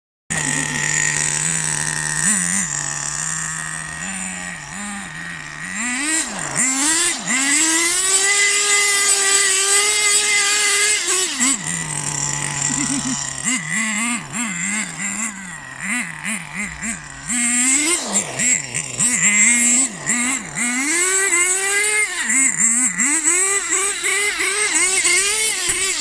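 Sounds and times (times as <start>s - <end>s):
model car engine revving: 0.3s - 26.0s.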